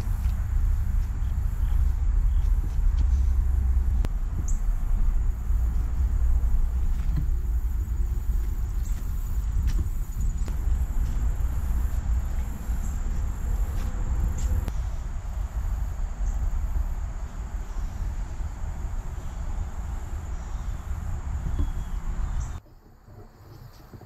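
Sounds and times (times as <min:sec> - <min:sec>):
insects calling in high drone: 0:00.0 - 0:22.6
low rumble: 0:00.0 - 0:22.6.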